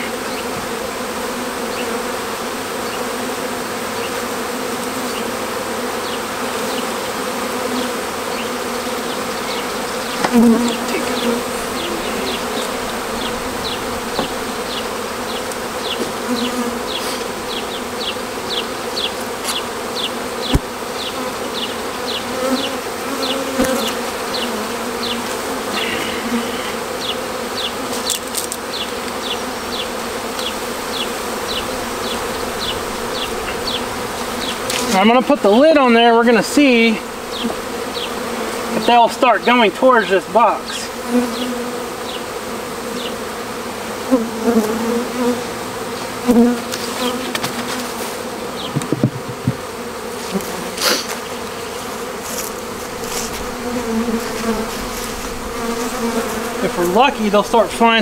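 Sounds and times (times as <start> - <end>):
bee swarm humming: 0.0 - 58.0.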